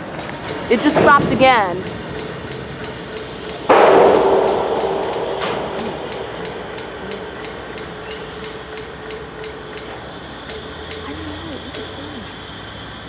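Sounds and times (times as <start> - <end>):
rapid metallic ticking: 0.0 - 12.8
stopped train humming: 0.0 - 13.0.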